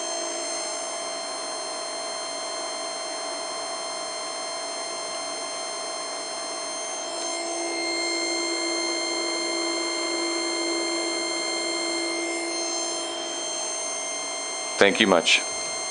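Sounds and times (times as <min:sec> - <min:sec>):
ozone generator humming: 0:00.0 - 0:15.9.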